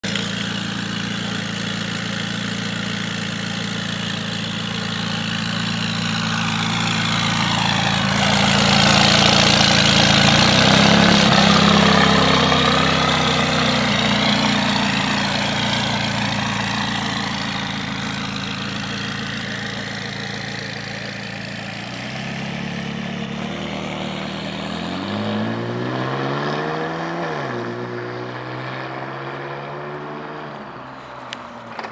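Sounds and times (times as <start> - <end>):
car engine idling: 0.0 - 25.5, 28.3 - 31.9
car engine revving: 0.0 - 31.9.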